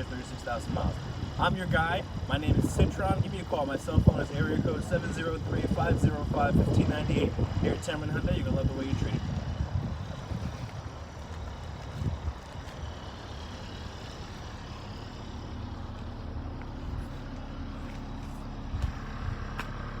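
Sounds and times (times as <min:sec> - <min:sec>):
faint engine hum: 0:00.0 - 0:20.0
motor vehicle rumble: 0:00.0 - 0:20.0.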